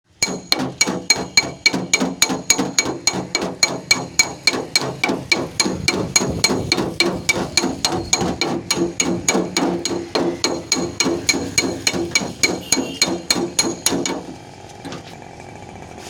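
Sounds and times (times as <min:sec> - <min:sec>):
hammer tapping sheet metal: 0:00.1 - 0:14.4.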